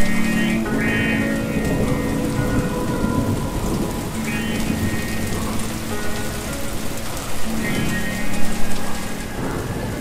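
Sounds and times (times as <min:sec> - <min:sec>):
music with long held notes: 0:00.0 - 0:10.0
steady rain on wet surface: 0:00.0 - 0:10.0.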